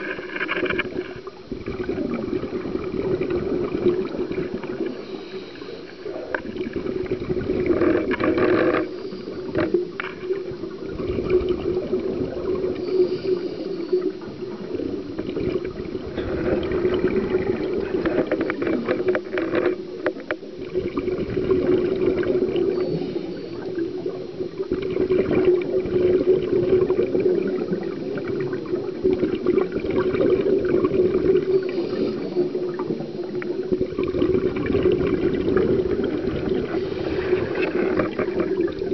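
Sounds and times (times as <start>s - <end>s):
exhaled bubbles gurgling underwater: 0.0s - 38.9s.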